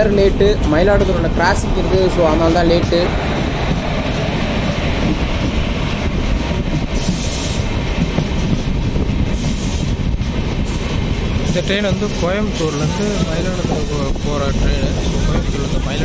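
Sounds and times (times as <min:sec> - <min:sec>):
train wheels rumbling and clattering: 0:00.0 - 0:16.0.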